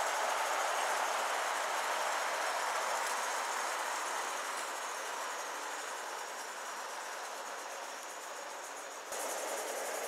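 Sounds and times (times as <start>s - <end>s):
model train rail noise: 0.0s - 10.0s.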